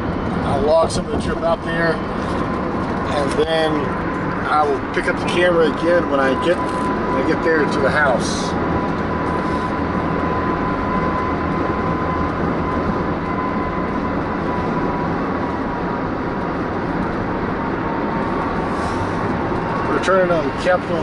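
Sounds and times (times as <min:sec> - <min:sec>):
faint steady whine: 0:00.0 - 0:21.0
road and engine noise in car: 0:00.0 - 0:21.0.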